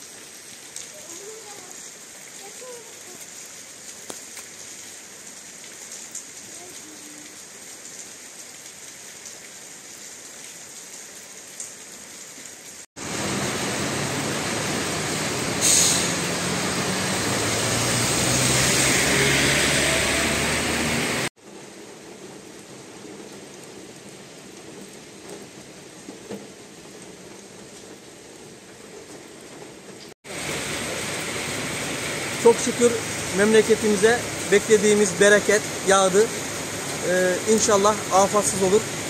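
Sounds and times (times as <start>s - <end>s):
rain drips: 0.0s - 39.0s
rain falling: 0.0s - 39.0s.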